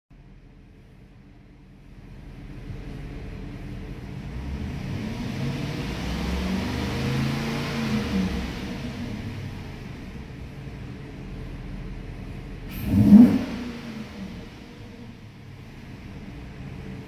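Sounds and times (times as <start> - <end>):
car engine idling and revving: 0.1 - 17.0.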